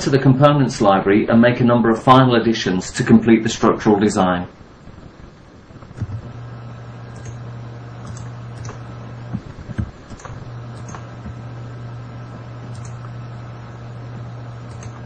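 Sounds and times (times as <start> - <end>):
computer humming: 0.0 - 15.0.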